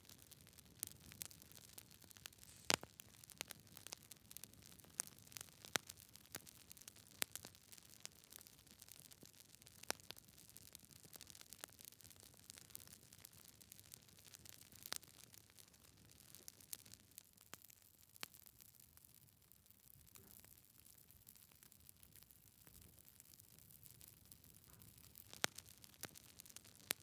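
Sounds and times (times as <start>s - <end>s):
wood fire crackling and popping: 0.0s - 19.3s, 20.9s - 27.0s.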